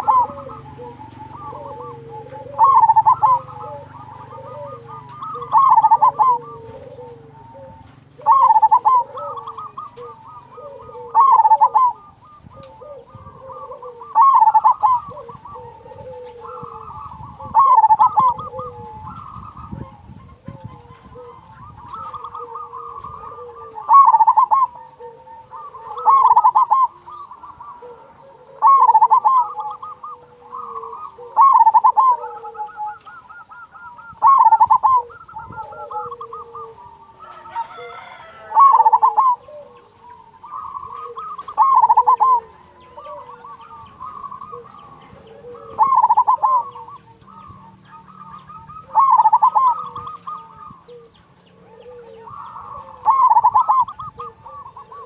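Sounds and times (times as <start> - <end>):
dove cooing loudly: 0.0 - 55.0
soft cooing of doves: 0.0 - 55.0.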